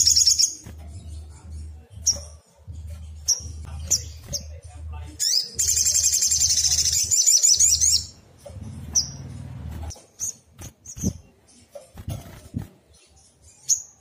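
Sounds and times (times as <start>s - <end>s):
bird trilling and chirping: 0.0s - 14.0s.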